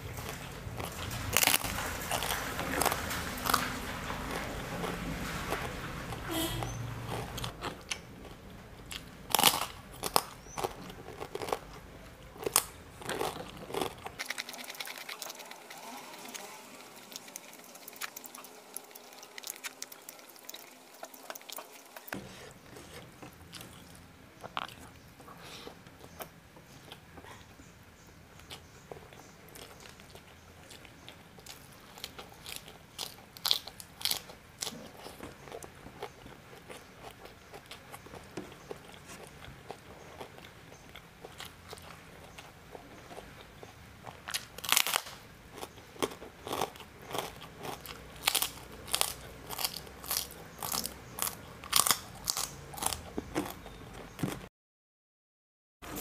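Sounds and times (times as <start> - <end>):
person chewing with crunches: 0.0 - 27.5, 28.4 - 54.5.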